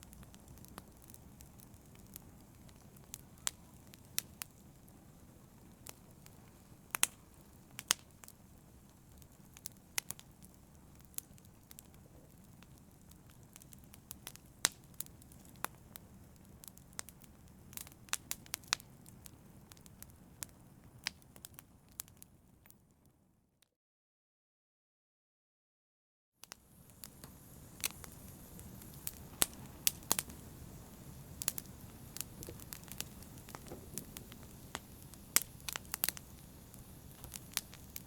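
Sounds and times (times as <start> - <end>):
fire popping: 0.0 - 22.3, 26.4 - 38.0
wood fire crackling: 0.0 - 22.8, 26.4 - 38.0.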